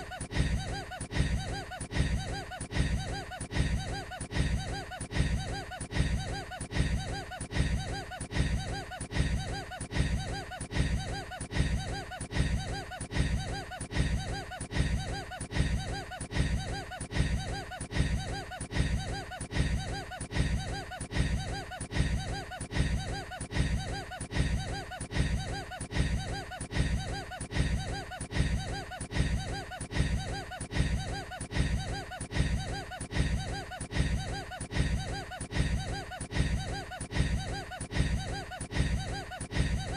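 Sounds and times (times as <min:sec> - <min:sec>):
man's short laugh looped: 0:00.0 - 0:39.9.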